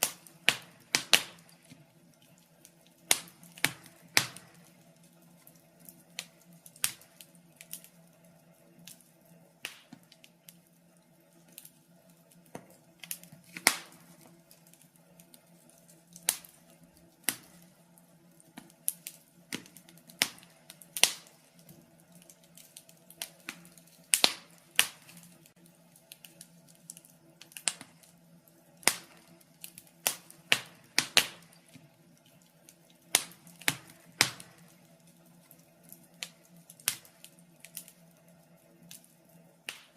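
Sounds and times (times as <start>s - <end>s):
steady low hum: 0.0s - 39.9s
wood fire crackling and popping: 0.0s - 39.9s.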